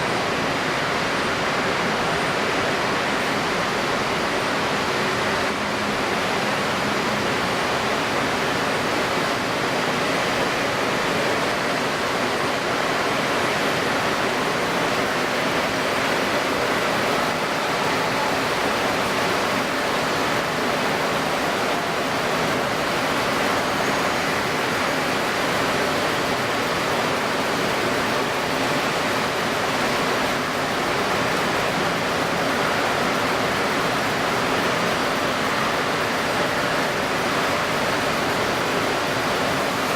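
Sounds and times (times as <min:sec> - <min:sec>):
choppy water: 0:00.0 - 0:39.9.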